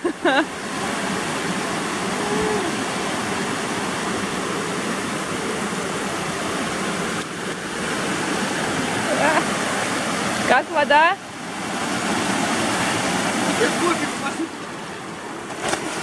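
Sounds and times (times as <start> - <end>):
waterfall rushing into a pool: 0.3 - 14.6.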